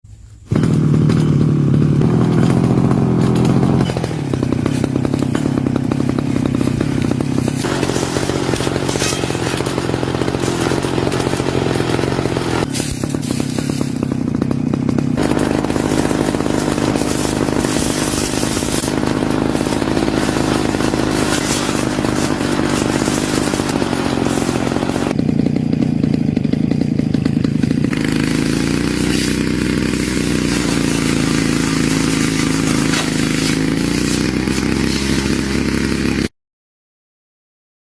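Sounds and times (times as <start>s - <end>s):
lawn mower engine running hard: 0.4s - 36.3s
mower blade chopping wood: 0.5s - 36.3s.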